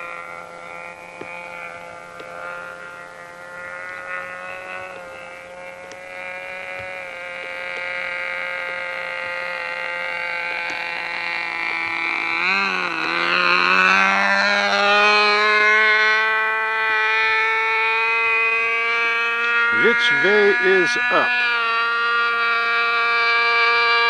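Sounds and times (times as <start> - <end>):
model airplane engine whining: 0.0 - 24.0.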